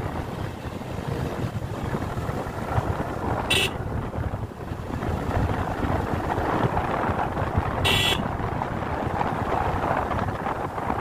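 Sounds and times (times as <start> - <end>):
motorcycle engine rumble: 0.0 - 11.0
wind buffeting microphone: 0.0 - 11.0.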